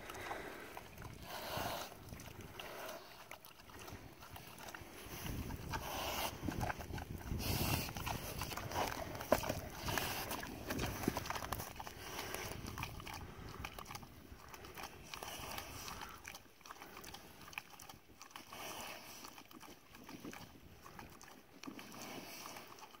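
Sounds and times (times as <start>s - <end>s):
pig chewing dry feed: 0.0s - 23.0s.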